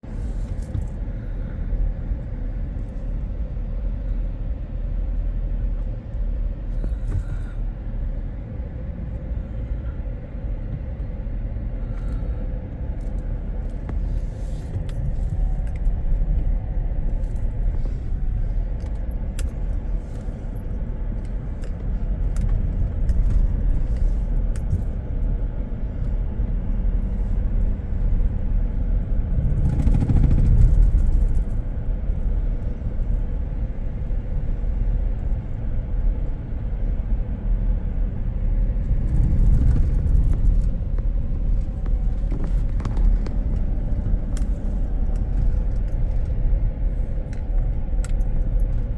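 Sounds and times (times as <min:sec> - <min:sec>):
car driving rumble: 0:00.0 - 0:48.9.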